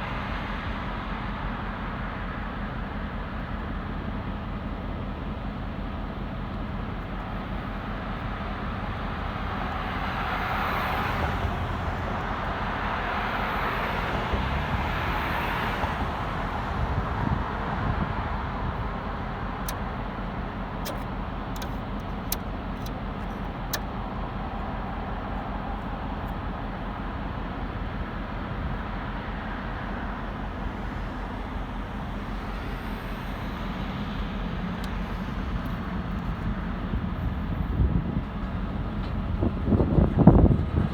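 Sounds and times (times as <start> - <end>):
road traffic passing: 0.0 - 40.9.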